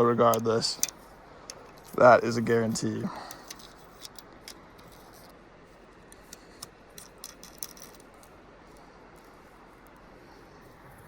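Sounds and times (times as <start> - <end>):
light clicks and small rattles: 0.0 - 5.4, 6.0 - 10.1.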